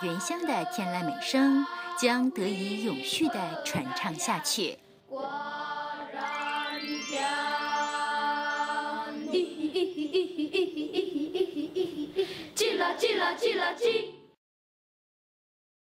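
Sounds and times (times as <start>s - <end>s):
children's choir singing: 0.0s - 14.4s.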